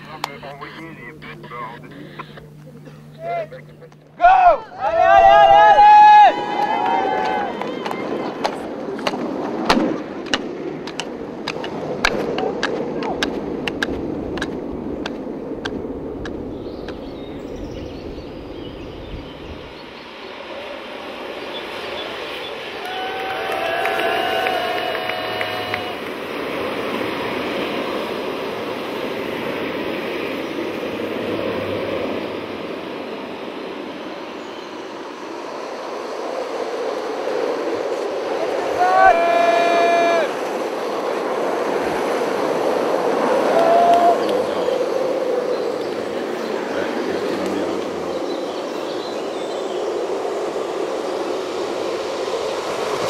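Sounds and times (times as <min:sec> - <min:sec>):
wheels rolling on asphalt: 0:00.0 - 0:53.0.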